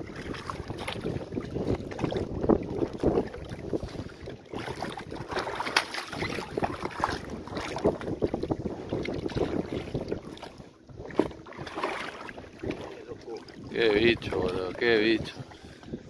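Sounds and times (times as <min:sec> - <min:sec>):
water splashing against boat: 0:00.0 - 0:16.0
wind buffeting microphone: 0:00.0 - 0:16.0.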